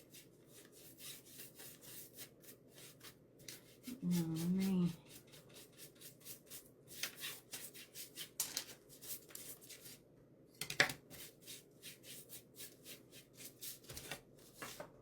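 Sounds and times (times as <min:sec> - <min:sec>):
paintbrush scrubbing wood: 0:00.0 - 0:10.0, 0:11.2 - 0:13.9.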